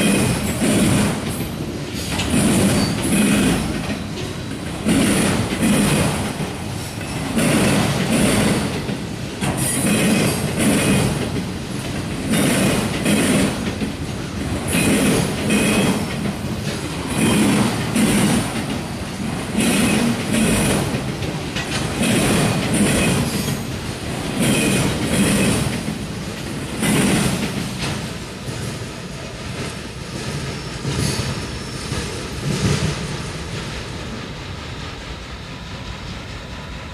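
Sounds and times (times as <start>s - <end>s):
freight train wheels clattering: 0.0s - 36.9s.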